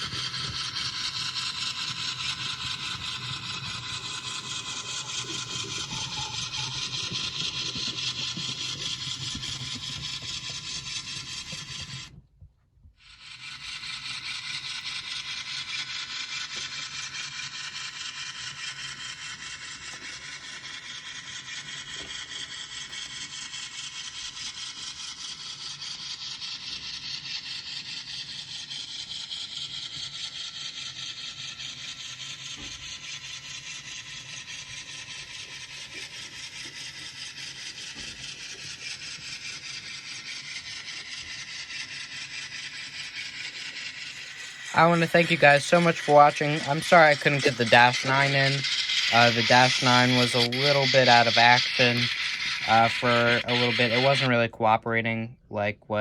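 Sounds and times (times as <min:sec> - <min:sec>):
model train motor whirring: 0:00.0 - 0:12.2, 0:13.0 - 0:55.2.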